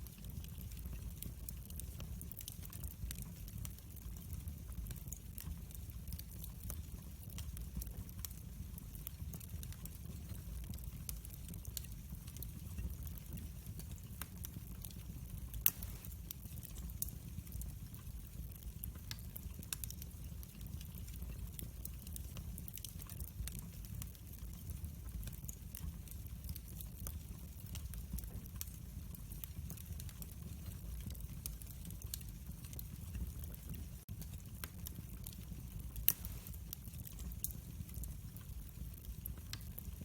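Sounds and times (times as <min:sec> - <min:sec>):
low fire rumble: 0:00.0 - 0:40.0
wood fire crackling: 0:00.0 - 0:40.0.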